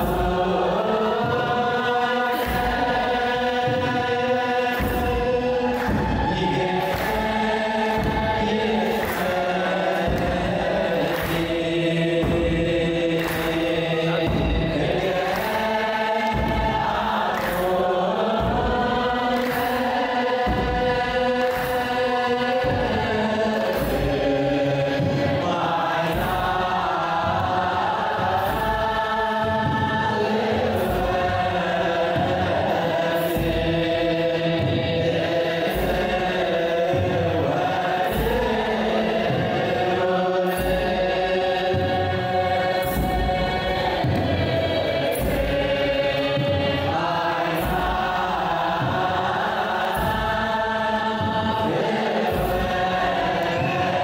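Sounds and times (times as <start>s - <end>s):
choir chanting a hymn: 0.0s - 54.0s
slow drum beat: 0.0s - 54.0s.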